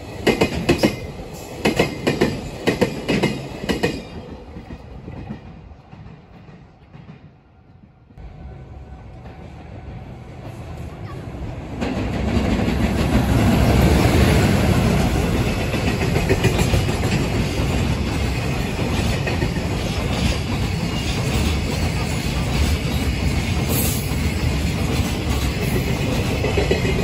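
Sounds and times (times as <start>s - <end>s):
train wheels on rails: 0.0s - 27.0s.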